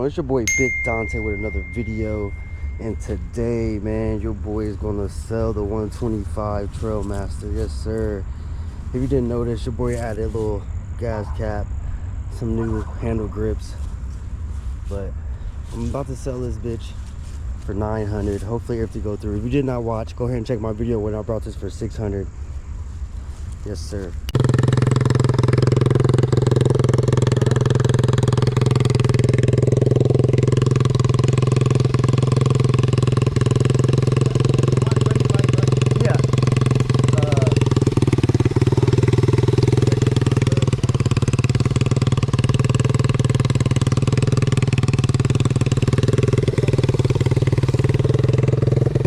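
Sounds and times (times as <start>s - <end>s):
engine droning steadily: 0.0s - 49.0s.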